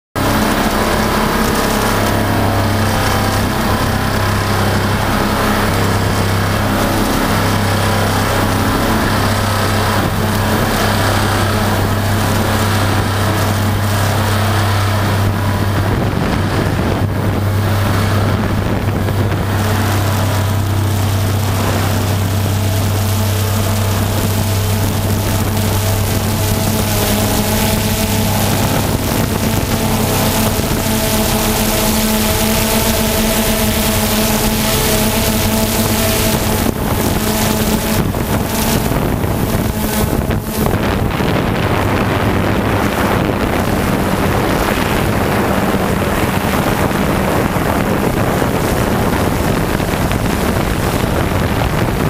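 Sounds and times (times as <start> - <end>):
vibratory pile hammer droning: 0.0 - 52.0.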